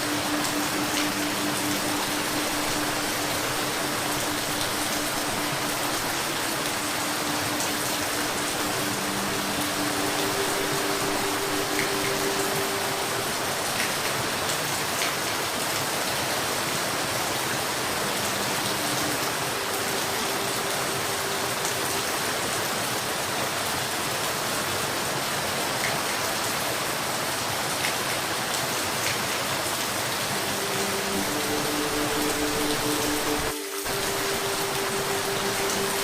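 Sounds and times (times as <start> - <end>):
rain hiss: 0.0 - 36.0.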